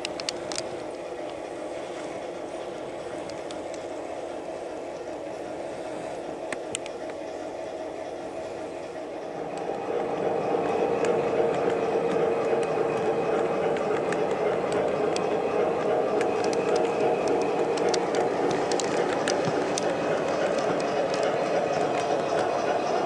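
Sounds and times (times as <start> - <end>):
toy train wheels rumbling: 0.0 - 23.0
wheels clicking over rail joints: 0.0 - 23.0.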